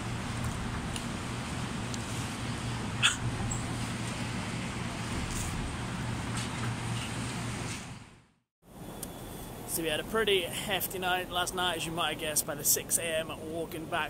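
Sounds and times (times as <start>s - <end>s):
steady low hum: 0.0s - 14.0s
traffic noise: 0.0s - 14.0s.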